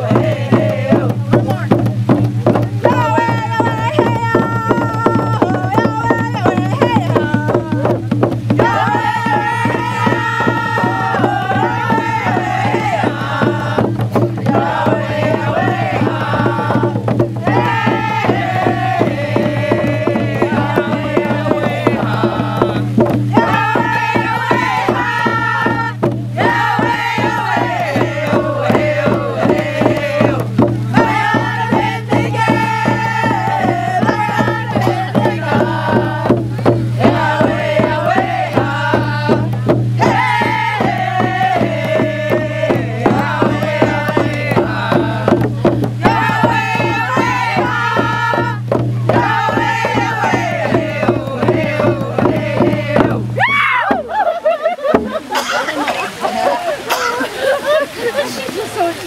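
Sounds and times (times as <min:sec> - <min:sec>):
women singing together: 0:00.0 - 0:01.7, 0:02.5 - 0:59.0
hand drums: 0:00.0 - 0:57.4.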